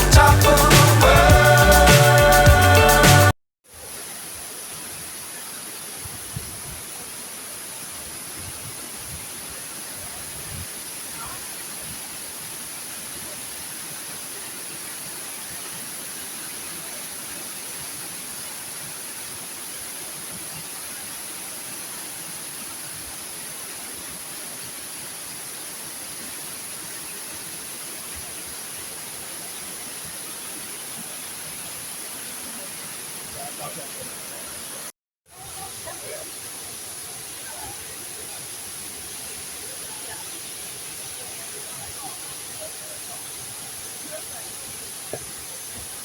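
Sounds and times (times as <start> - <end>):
waterfall roaring: 3.8 - 46.0.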